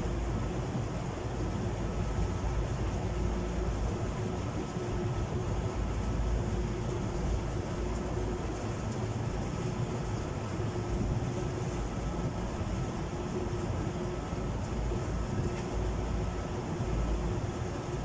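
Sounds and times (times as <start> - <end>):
boat engine rumbling: 0.0 - 18.0
churning wake: 0.0 - 18.0
wind: 0.0 - 18.0.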